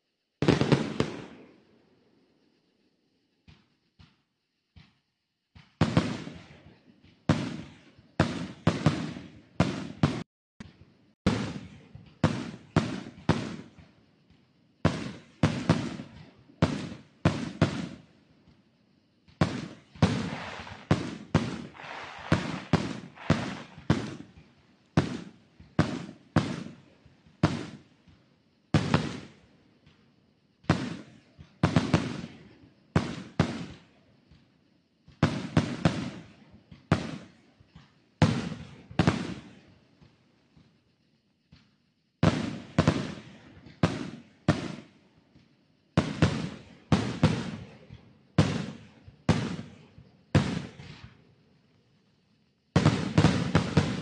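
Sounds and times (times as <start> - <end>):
fireworks crackling pops: 0.0 - 54.0
fireworks bangs echoing: 0.4 - 1.7, 4.8 - 34.4, 35.0 - 40.7, 42.2 - 45.0, 45.9 - 51.2, 52.7 - 54.0.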